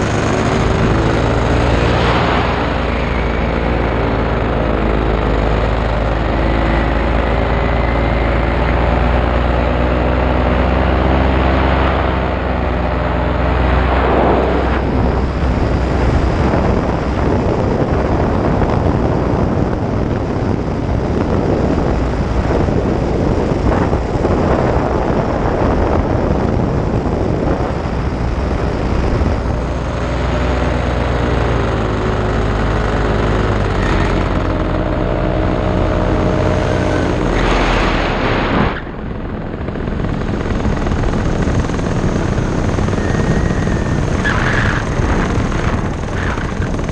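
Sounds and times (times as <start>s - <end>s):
paramotor engine drone: 0.0s - 46.9s
wind rushing on microphone: 0.0s - 46.9s.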